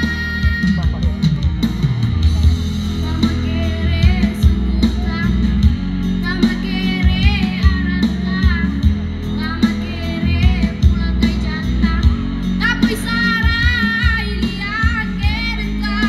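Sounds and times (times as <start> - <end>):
child singing into a microphone: 0.0 - 0.9, 3.1 - 5.5, 6.2 - 16.0
band with heavy bass and drums: 0.0 - 16.0.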